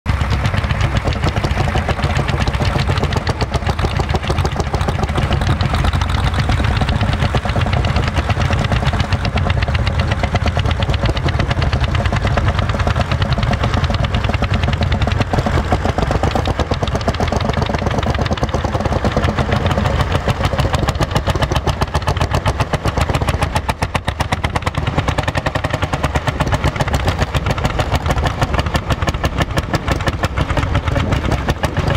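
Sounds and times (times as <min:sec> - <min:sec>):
tractor engine knocking: 0:00.1 - 0:31.9.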